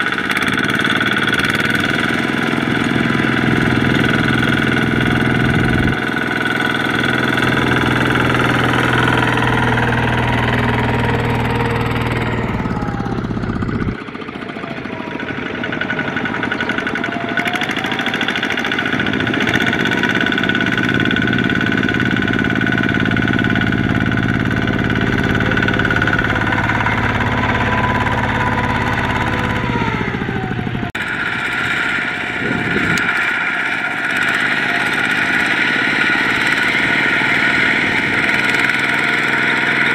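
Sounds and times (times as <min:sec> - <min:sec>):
diesel tractor engine knocking: 0:00.0 - 0:39.9.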